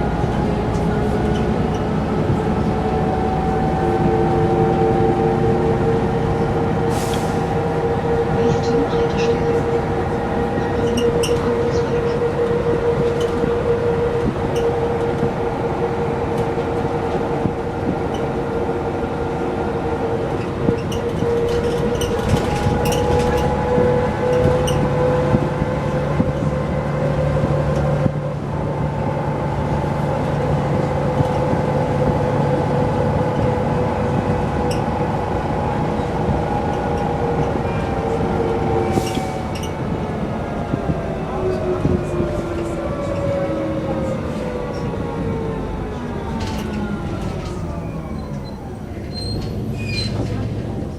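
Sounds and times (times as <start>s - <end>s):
bus body rattling: 0.0s - 45.2s, 45.9s - 50.9s
bus engine whining: 0.0s - 50.9s.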